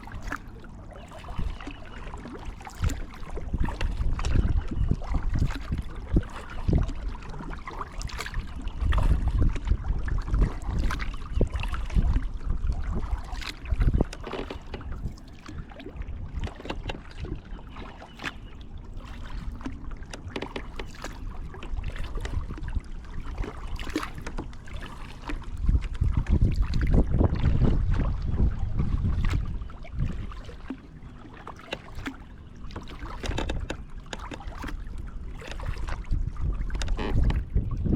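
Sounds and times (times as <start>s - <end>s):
wind on microphone: 0.0s - 18.4s, 19.1s - 30.8s, 31.7s - 37.9s
paddle splashing in water: 0.0s - 37.9s.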